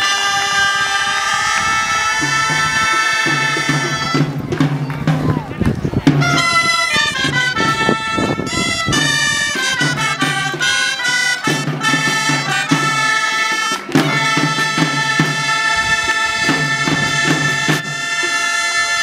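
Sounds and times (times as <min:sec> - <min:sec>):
drum beating time: 0:00.0 - 0:19.0
reed wind instruments playing dance tune: 0:00.0 - 0:19.0.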